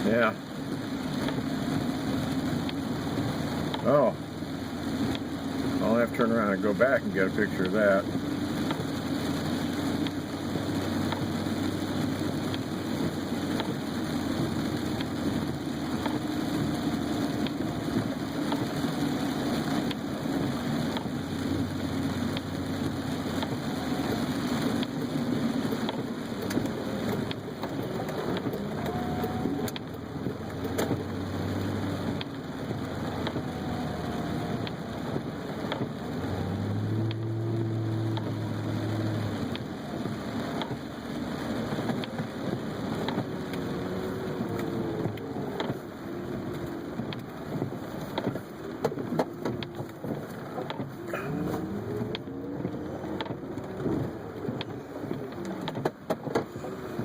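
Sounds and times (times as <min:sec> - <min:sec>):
car engine and road noise: 0:00.0 - 0:57.0
rain on car body: 0:00.0 - 0:57.0.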